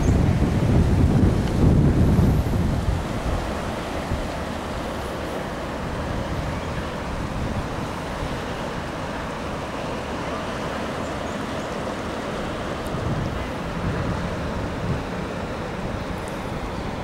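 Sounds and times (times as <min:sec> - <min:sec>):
steady rushing hiss: 0:00.0 - 0:17.0
wind buffeting microphone: 0:00.0 - 0:17.0.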